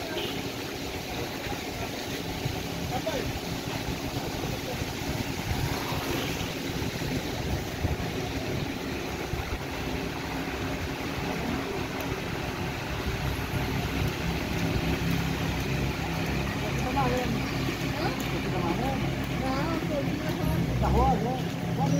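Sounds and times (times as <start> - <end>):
vehicle engine humming: 0.0 - 21.9.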